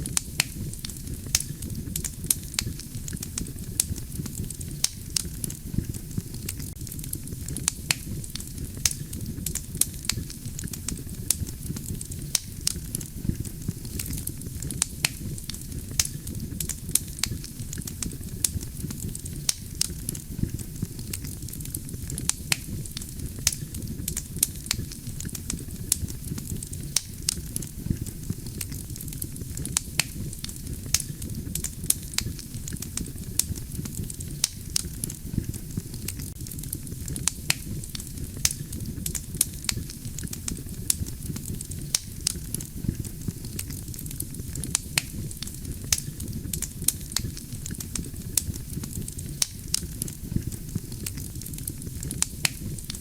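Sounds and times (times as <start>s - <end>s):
campfire flames rumbling: 0.0s - 53.0s
crackles and pops of logs: 0.0s - 53.0s.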